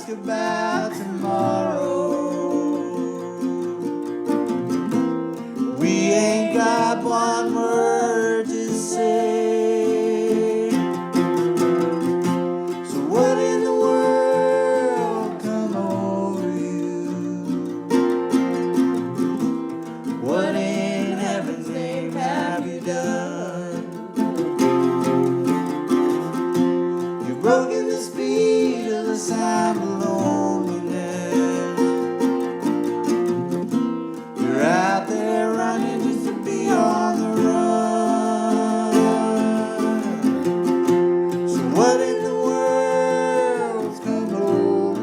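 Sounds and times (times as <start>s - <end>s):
strummed mandolin chords: 0.0s - 45.0s.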